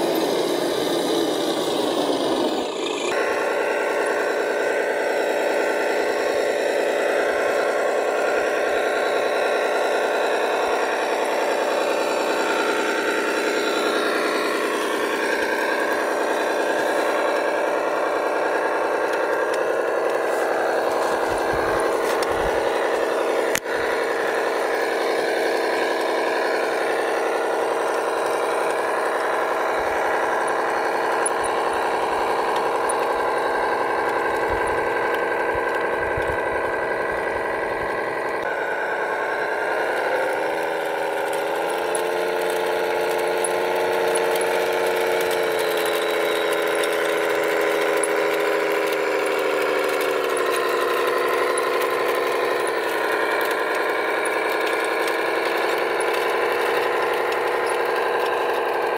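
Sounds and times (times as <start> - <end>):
toy truck motor whine: 0.0 - 58.9.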